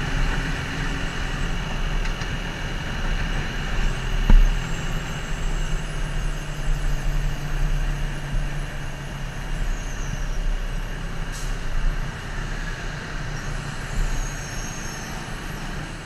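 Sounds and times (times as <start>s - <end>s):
wind rush and road noise: 0.0s - 16.0s.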